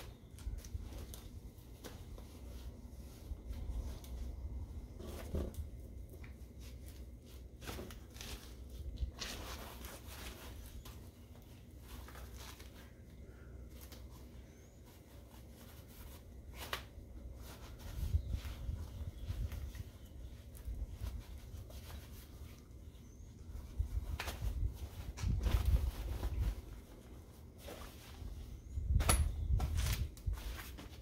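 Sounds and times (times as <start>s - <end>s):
fabric and plastic fittings rustling: 0.0s - 31.0s.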